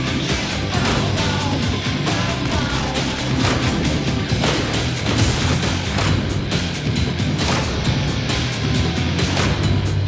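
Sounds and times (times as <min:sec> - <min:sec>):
driving trailer music: 0:00.0 - 0:10.0.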